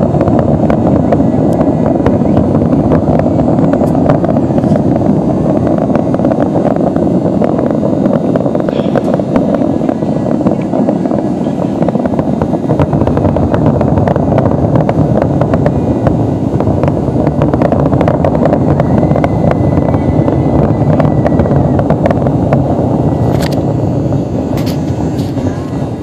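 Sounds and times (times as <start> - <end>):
fireworks booming: 0.0 - 26.0
fireworks crackling: 0.0 - 26.0.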